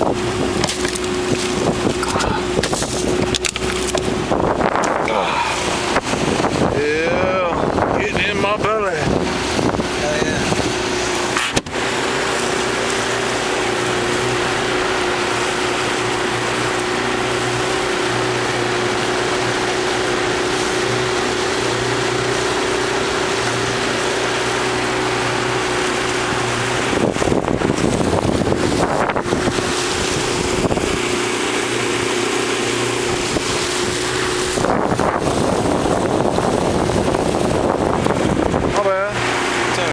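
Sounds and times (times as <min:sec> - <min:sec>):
boat motor humming: 0:00.0 - 0:39.9
wind buffeting microphone: 0:00.0 - 0:39.9.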